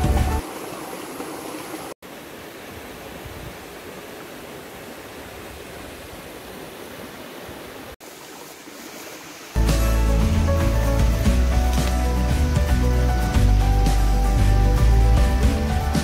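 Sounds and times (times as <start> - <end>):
waterfall rushing into pool: 0.0 - 13.6.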